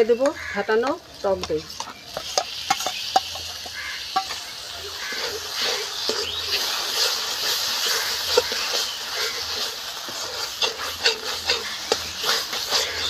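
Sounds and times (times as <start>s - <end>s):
paste sizzling in a wok: 0.0s - 13.0s
metal spatula scraping wok: 1.5s - 13.0s.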